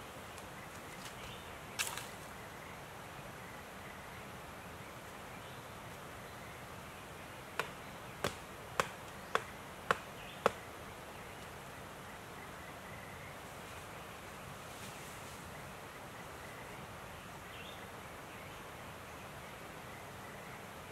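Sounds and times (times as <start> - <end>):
faint hiss: 0.0 - 20.9.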